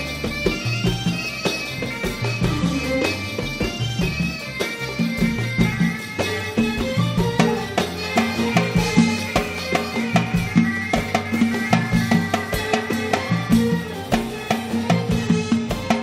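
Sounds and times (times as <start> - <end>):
drums and percussion: 0.0 - 16.0
strings: 0.0 - 16.0.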